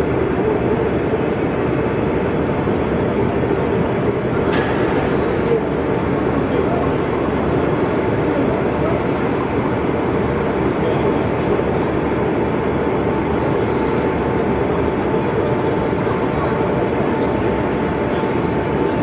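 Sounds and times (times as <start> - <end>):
faint high hum: 0.0 - 19.0
crowd talking indistinctly: 3.3 - 19.0.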